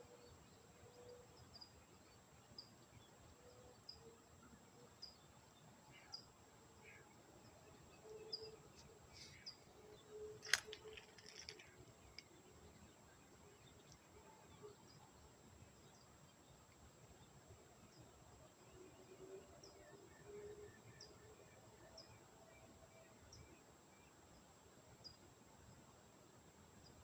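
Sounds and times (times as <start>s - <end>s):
faint outdoor ambience: 0.0s - 27.0s.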